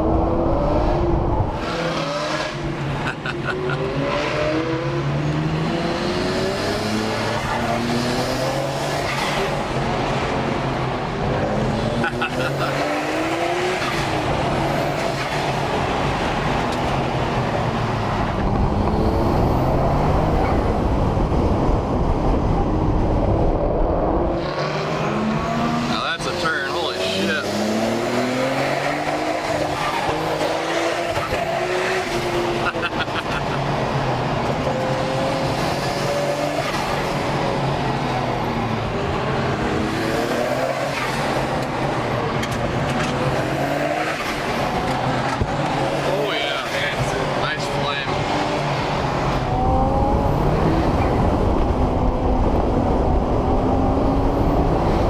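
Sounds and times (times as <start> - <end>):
car engine under load: 0.0 - 55.0
road and tyre noise: 0.0 - 55.0.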